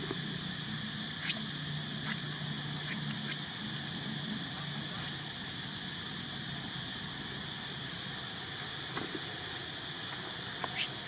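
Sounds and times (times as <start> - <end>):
high-pitched insect drone: 0.0 - 11.0
low hum: 0.0 - 11.0.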